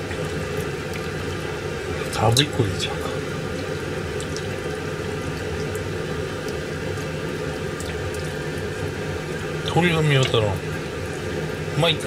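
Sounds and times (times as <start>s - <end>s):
liquid sloshing: 0.0s - 11.8s.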